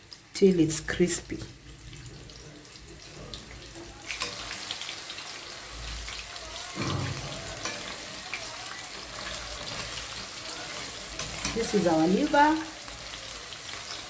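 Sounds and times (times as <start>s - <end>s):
food deep-frying in hot oil: 0.0s - 14.0s.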